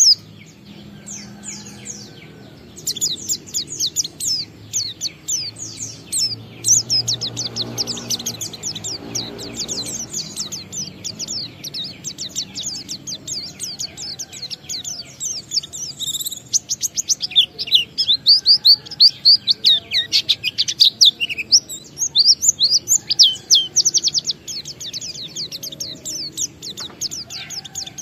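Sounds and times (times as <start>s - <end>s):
bird singing high chirps: 0.0s - 28.0s.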